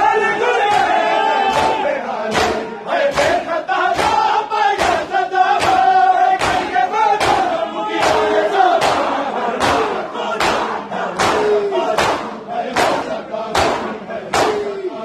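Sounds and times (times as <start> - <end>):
crowd chanting a lament: 0.0 - 15.0
chest-beating slaps: 1.5 - 14.7.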